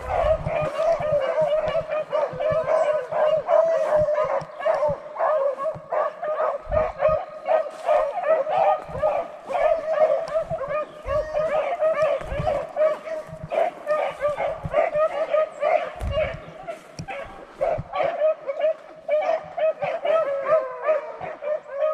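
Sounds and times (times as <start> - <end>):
hounds baying in chorus: 0.0 - 21.9.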